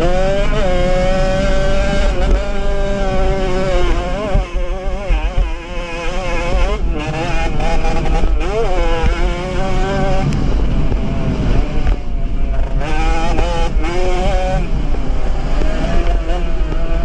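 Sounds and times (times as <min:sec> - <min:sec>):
two-stroke moped engine revving: 0:00.0 - 0:17.0.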